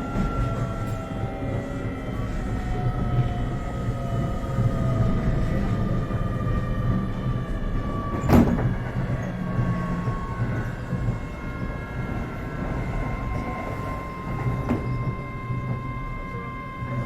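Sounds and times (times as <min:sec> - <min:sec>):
multi-toned train whine: 0:00.0 - 0:17.0
train wheels rumbling on rails: 0:00.0 - 0:17.0.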